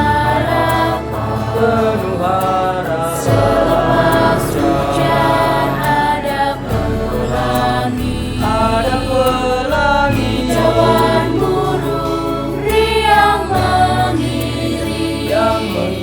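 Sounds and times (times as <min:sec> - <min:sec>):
choir singing in parts: 0:00.0 - 0:16.0.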